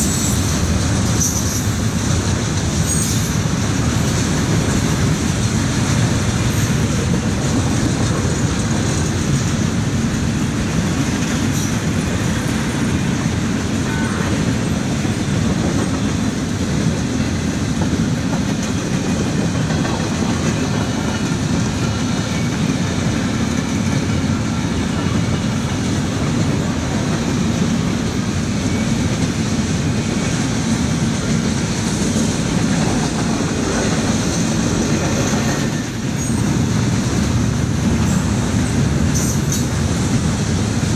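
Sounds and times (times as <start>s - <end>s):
train cars rumbling on rails: 0.0s - 40.9s.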